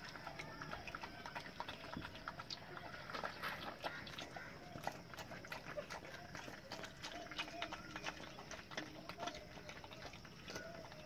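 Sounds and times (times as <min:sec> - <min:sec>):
puppies suckling clicks: 0:00.0 - 0:11.0.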